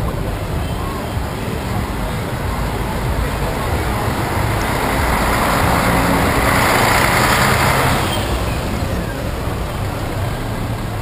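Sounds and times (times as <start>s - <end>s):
coach engine passing: 0.0s - 11.0s
street traffic noise: 0.0s - 11.0s.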